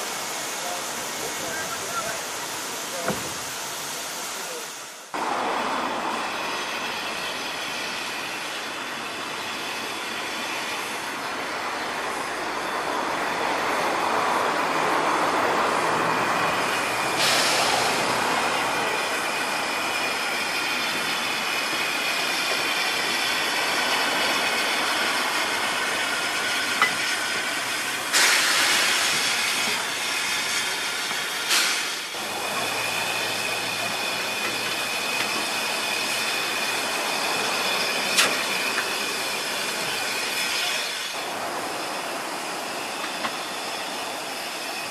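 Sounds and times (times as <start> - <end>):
steam hissing from locomotive: 0.0 - 44.9.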